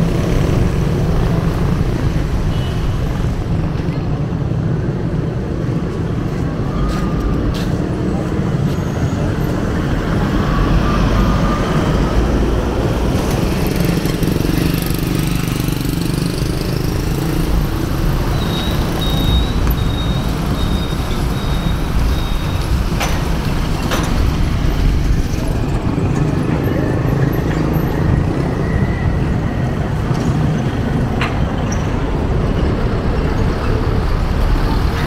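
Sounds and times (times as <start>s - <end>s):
low traffic rumble: 0.0s - 35.0s.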